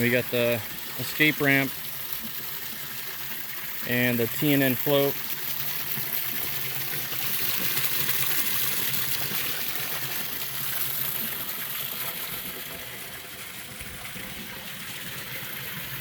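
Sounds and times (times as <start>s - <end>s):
water splashing into trough: 0.0s - 16.0s.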